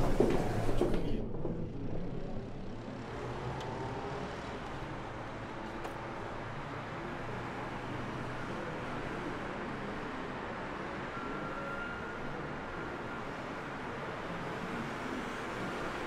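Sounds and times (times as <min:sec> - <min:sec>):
street traffic hum: 0:00.0 - 0:16.0.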